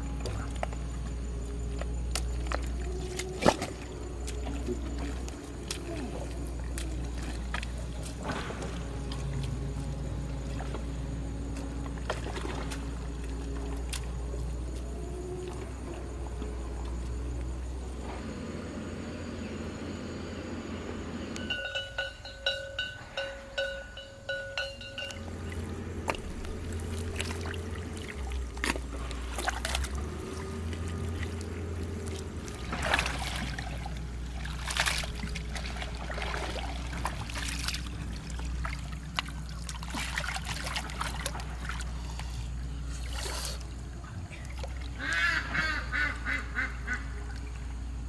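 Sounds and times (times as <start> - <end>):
water splashing and trickling: 0.0 - 18.3, 21.5 - 48.0
steady low rumble: 0.0 - 48.0.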